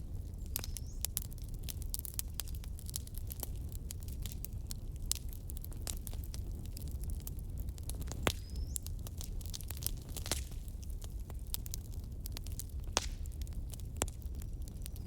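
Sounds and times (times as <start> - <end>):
fire crackling and popping: 0.0 - 15.0
low fire rumble: 0.0 - 15.0.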